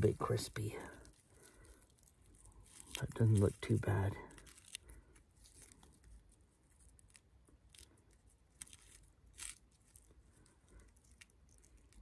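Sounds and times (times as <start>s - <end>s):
crisp fish skin crackling: 0.0s - 12.0s.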